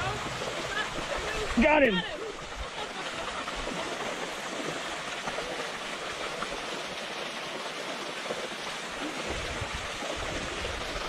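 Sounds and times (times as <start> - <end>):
water rushing into lake: 0.0 - 11.0.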